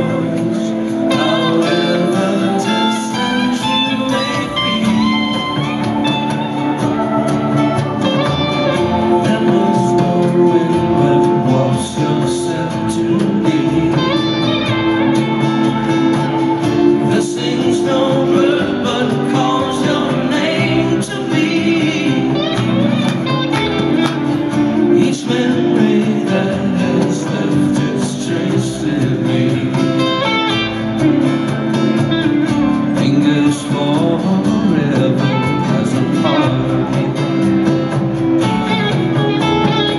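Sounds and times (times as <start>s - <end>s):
electric and acoustic guitars: 0.0s - 39.9s
person singing: 0.0s - 39.9s.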